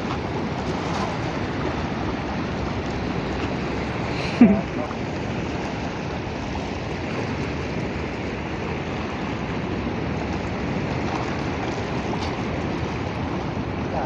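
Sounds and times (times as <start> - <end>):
waves washing over stony shore: 0.0 - 14.0
wind: 0.0 - 14.0.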